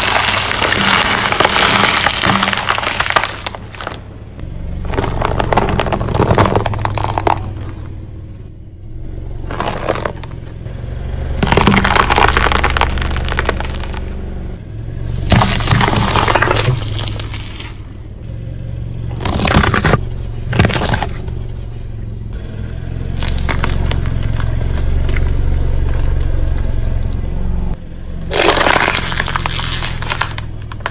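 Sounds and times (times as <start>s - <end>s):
car engine: 0.0s - 30.9s
tires crushing objects: 0.0s - 30.9s.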